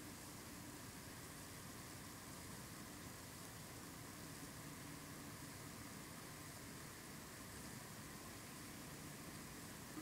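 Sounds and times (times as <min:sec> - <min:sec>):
faint wind hiss: 0:00.0 - 0:10.0.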